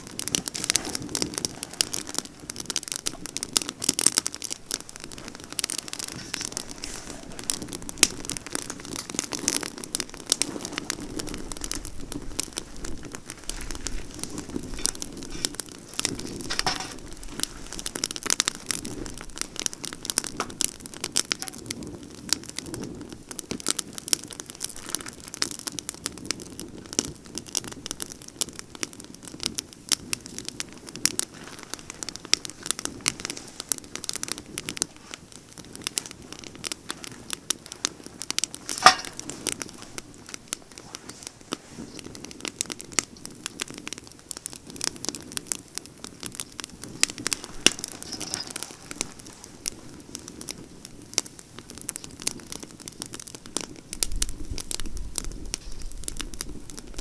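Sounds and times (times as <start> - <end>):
campfire crackling and popping: 0.0 - 57.0
low rush of flame: 0.0 - 57.0.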